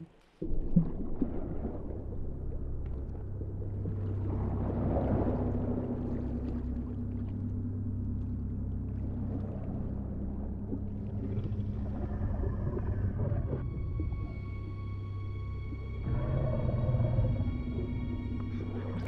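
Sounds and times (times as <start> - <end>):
low hum: 0.0 - 19.0
underwater low rumble: 0.0 - 19.0.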